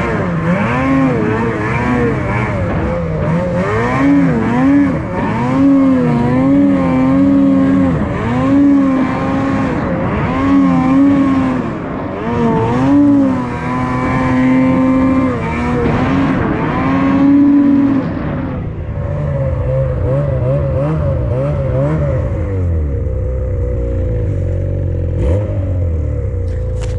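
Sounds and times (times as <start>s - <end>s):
snowmobile engine revving: 0.0s - 26.9s.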